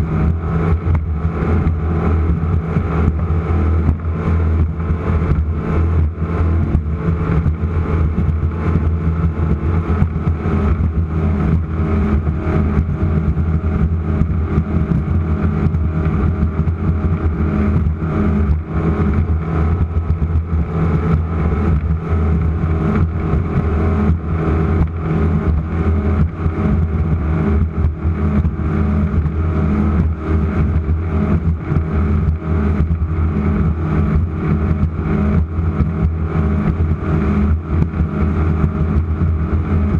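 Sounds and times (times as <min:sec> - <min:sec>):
race boat engines droning: 0:00.0 - 0:39.9.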